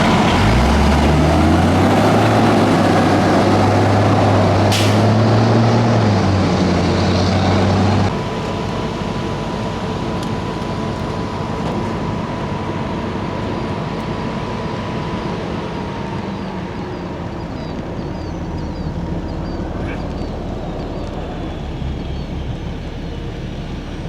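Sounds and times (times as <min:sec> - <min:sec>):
heavy vehicle engine humming: 0:00.0 - 0:24.0.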